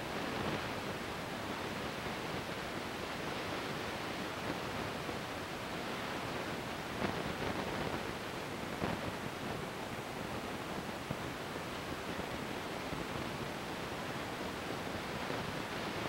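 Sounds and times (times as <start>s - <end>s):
camcorder recording hiss: 0.0s - 16.0s.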